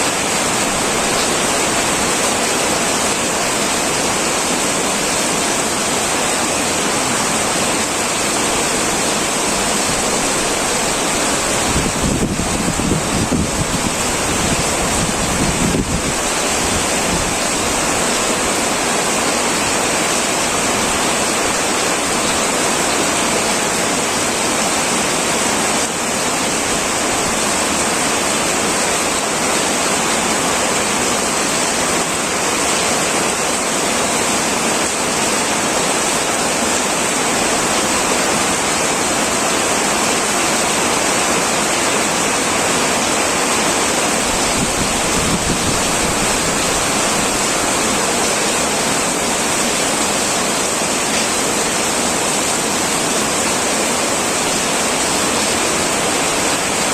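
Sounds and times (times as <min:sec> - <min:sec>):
heavy rain on a tin roof: 0:00.0 - 0:56.9.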